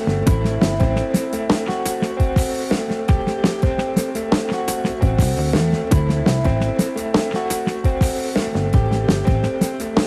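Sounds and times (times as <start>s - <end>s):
band music with drum beat: 0.0s - 10.0s.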